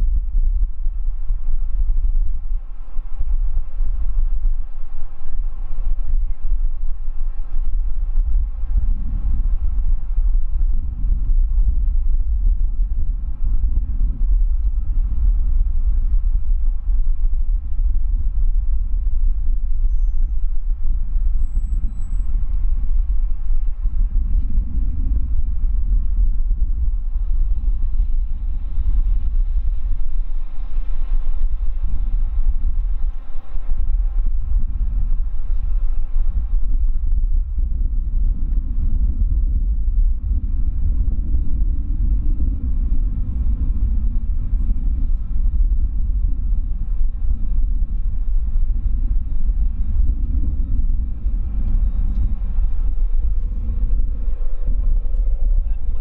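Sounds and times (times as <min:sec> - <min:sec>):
distant jet engines rumbling: 0:00.0 - 0:56.0
faint steady tones: 0:00.0 - 0:56.0.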